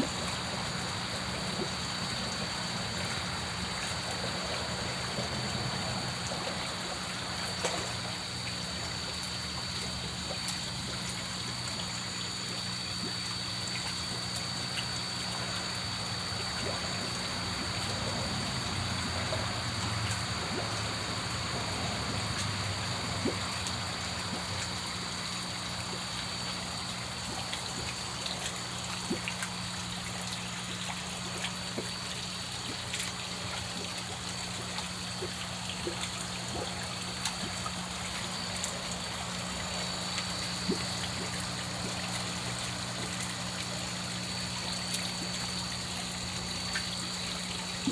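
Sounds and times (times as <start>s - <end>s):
low electrical hum: 0.0s - 47.9s
water trickling: 0.0s - 47.9s.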